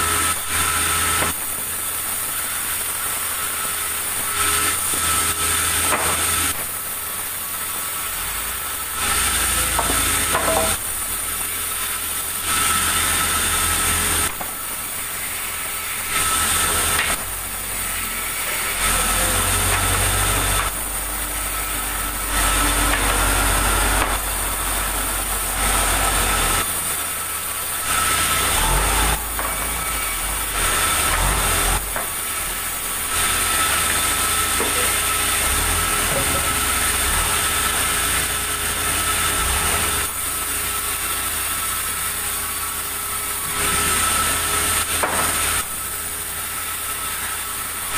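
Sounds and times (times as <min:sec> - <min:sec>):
sawmill machinery whining: 0:00.0 - 0:47.9.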